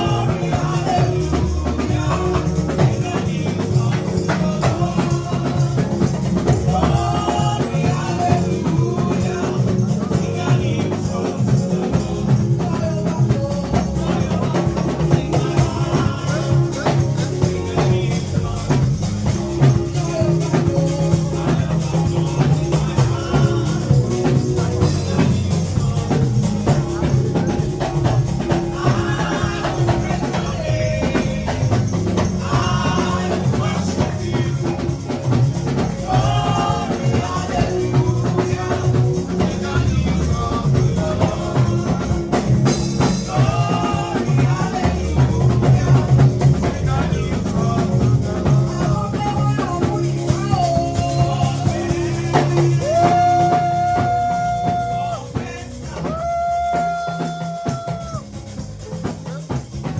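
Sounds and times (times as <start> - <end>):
steady bass line: 0.0 - 59.9
tambourine-like percussion: 0.0 - 59.9
voices singing praise music: 0.0 - 59.9.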